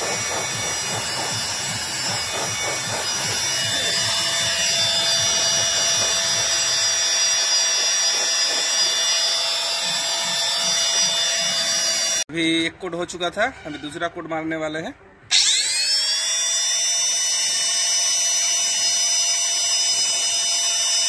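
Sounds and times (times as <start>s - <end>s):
paint spray gun motor whining: 0.0s - 12.2s, 15.3s - 21.0s.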